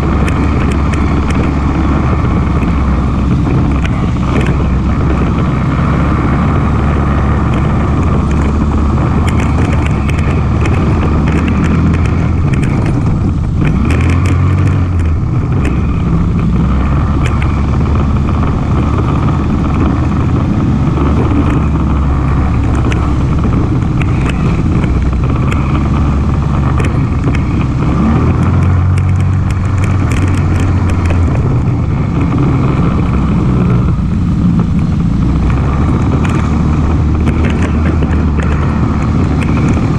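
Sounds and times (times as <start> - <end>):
atv engine running: 0.0 - 39.9
clicks and rattles: 0.0 - 39.9.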